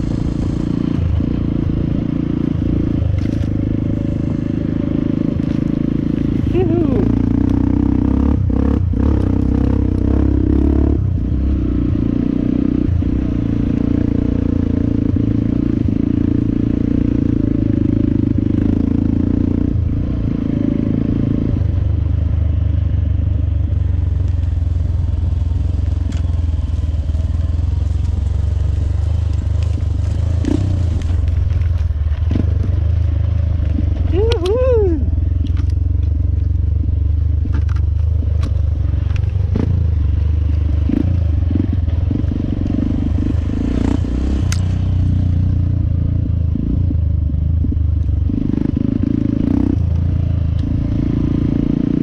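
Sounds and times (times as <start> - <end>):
dirt bike engine running: 0.0 - 52.0.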